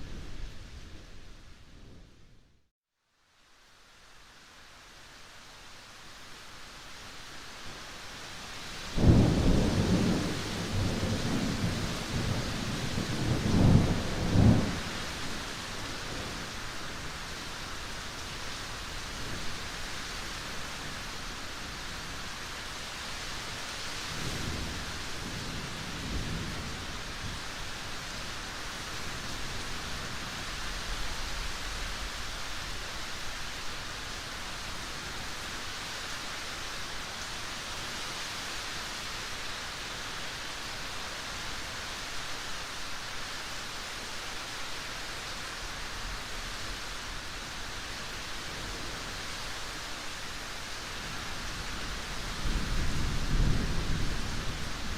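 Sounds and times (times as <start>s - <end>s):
rain hiss: 0.0s - 2.0s, 3.1s - 54.9s.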